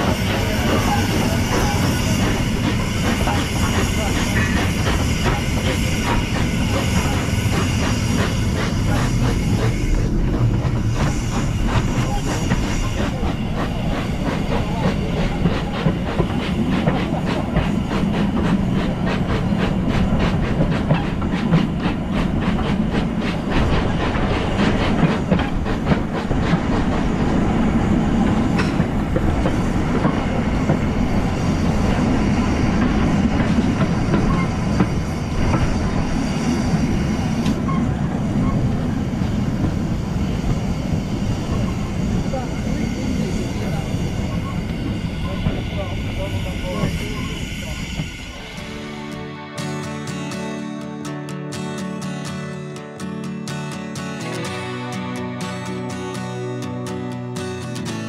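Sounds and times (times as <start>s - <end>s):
steam train running: 0.0s - 58.0s.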